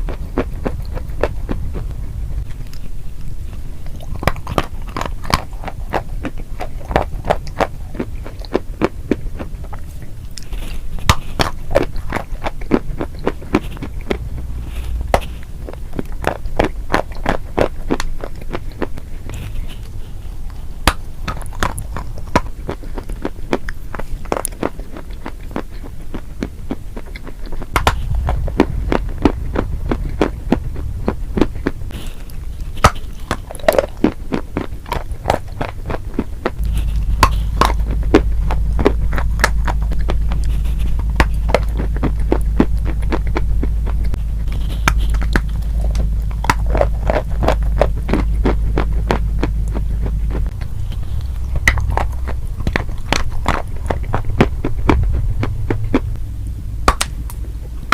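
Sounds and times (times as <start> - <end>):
crunchy food being chewed: 0.0 - 56.2
low hum: 0.0 - 57.9.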